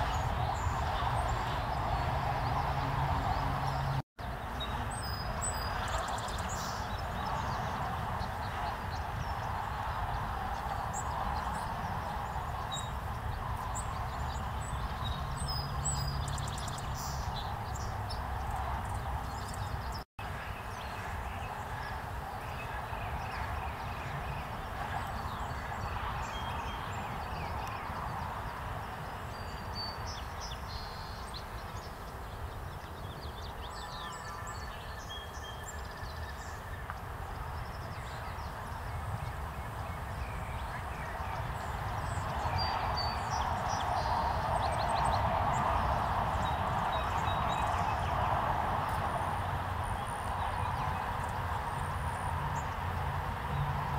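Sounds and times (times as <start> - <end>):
small birds chirping: 0.0 - 52.9
outdoor background noise: 0.0 - 53.9.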